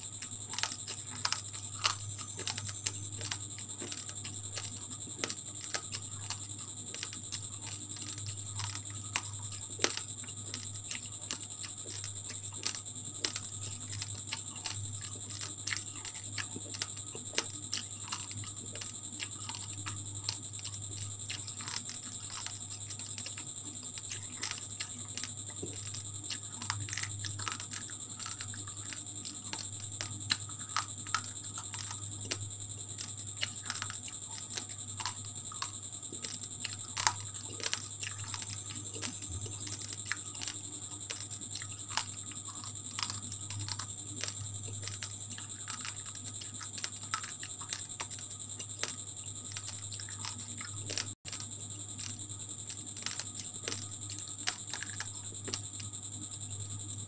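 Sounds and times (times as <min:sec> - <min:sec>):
rice grains crunching: 0:00.0 - 0:55.7
steady low hum: 0:00.0 - 0:57.0.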